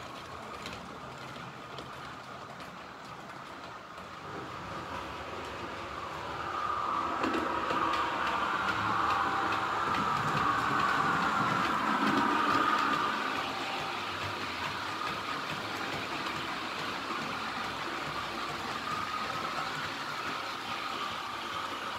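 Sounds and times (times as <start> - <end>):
model train whine: 0.0 - 21.9
wheels clicking on track: 0.0 - 21.9.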